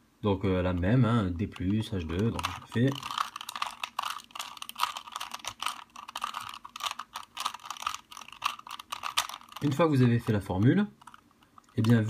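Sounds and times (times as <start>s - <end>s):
puzzle cube plastic clicks: 1.4s - 12.0s.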